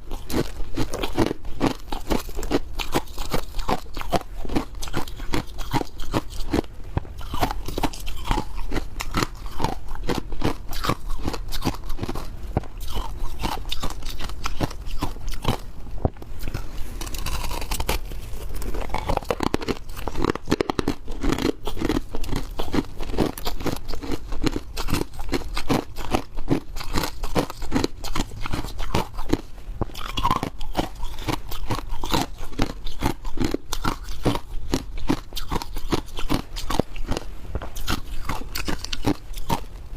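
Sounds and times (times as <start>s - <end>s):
chewing crunching ice: 0.0s - 15.7s, 16.4s - 39.7s.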